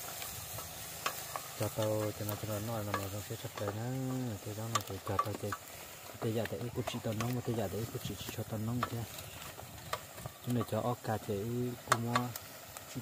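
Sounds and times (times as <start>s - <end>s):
food frying in a pan: 0.0s - 13.0s
utensil clicking against pan: 0.1s - 10.8s, 11.8s - 12.9s.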